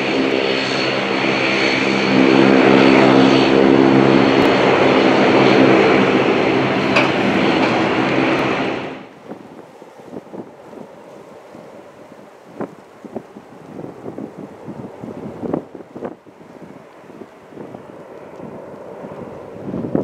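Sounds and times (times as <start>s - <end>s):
jet engine roar with whine: 0.0s - 20.0s.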